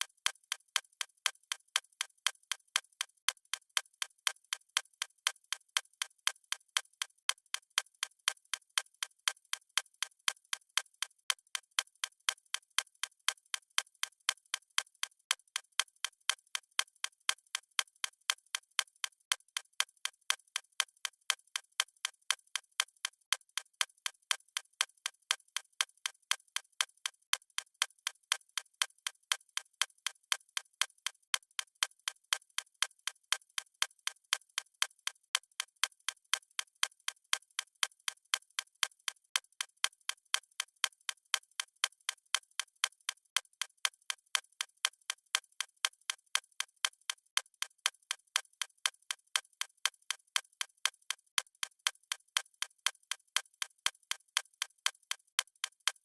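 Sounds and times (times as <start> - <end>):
watch ticking fast: 0.0 - 56.0.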